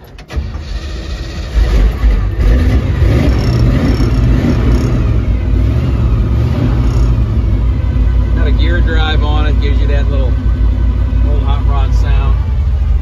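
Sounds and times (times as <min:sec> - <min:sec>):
car engine cranking and running: 0:00.0 - 0:13.0.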